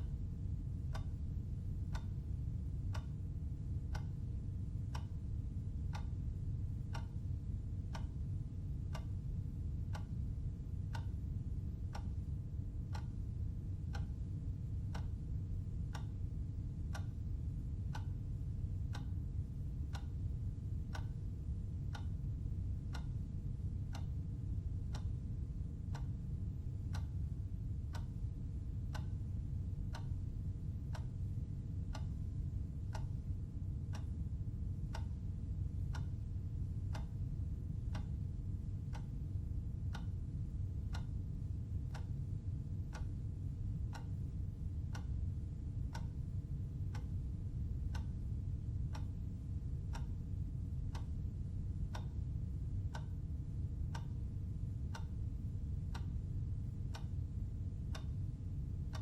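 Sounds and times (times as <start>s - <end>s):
clock ticking: 0.0s - 16.2s, 16.9s - 51.2s, 51.9s - 53.2s, 53.9s - 57.3s, 57.9s - 58.2s
low steady hum: 0.0s - 59.0s.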